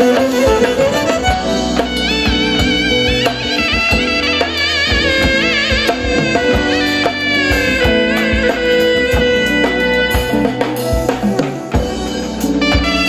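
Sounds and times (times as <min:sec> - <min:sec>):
drum kit beats: 0:00.0 - 0:13.0
reedy wind instrument melody: 0:00.0 - 0:13.0.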